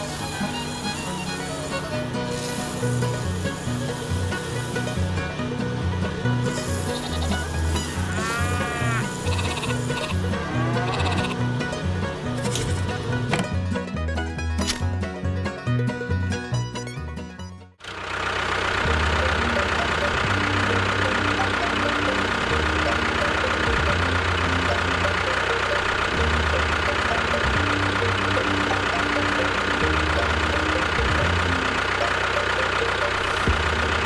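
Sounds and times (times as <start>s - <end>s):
small engine running with knocking: 0.0s - 14.0s, 17.8s - 34.0s.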